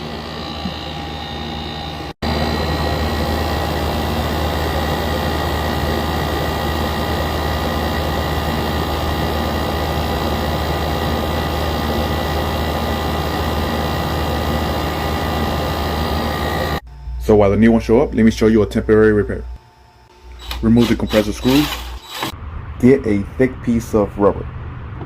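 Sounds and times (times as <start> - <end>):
air conditioner low drone: 0.0 - 25.0.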